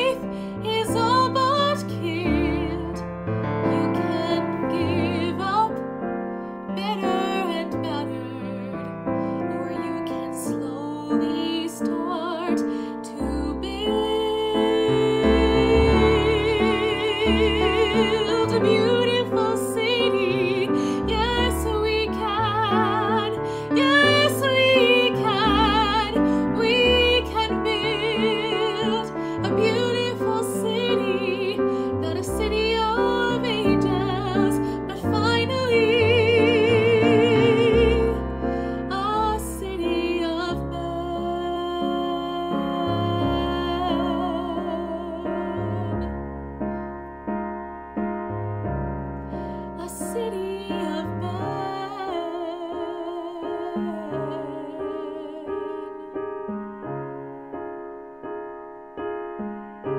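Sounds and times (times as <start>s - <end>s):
woman singing with vibrato: 0.0s - 3.0s, 3.7s - 5.8s, 9.5s - 46.1s, 49.8s - 56.2s
piano accompaniment: 0.0s - 59.9s.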